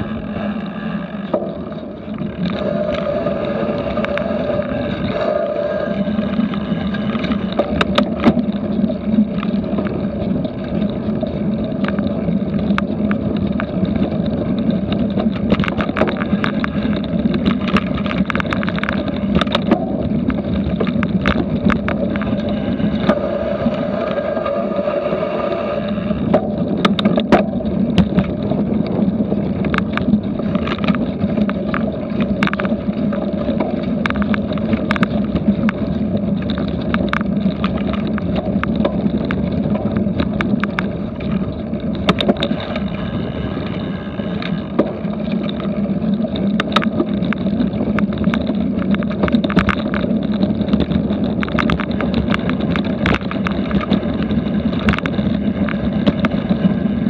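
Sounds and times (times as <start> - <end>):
bike clicks and knocks: 0.0 - 5.4, 6.0 - 24.3, 26.1 - 57.0
wind rush on microphone: 0.0 - 57.0.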